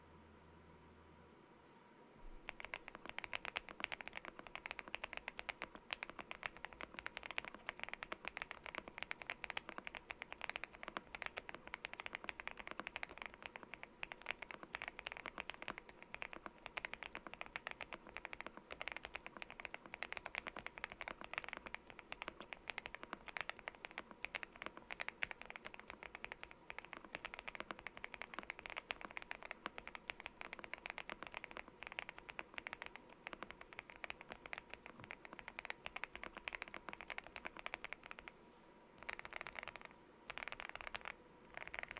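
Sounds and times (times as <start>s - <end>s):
fast typing on keyboard: 2.4s - 38.3s, 39.0s - 41.9s.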